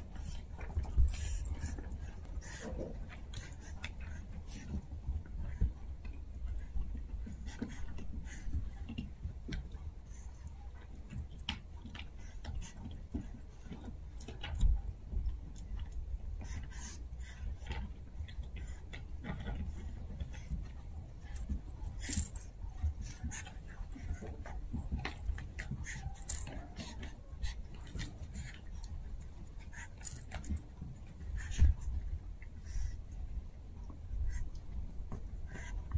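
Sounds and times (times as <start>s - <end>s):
low steady hum: 0.0s - 35.9s
puppies chewing toys: 0.0s - 35.9s.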